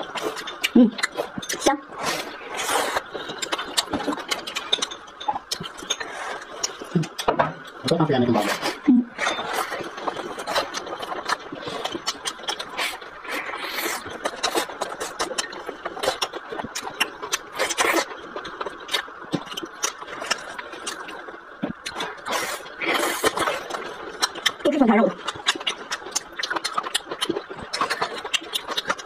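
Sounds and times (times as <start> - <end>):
chewing and lip-smacking: 0.0 - 29.0.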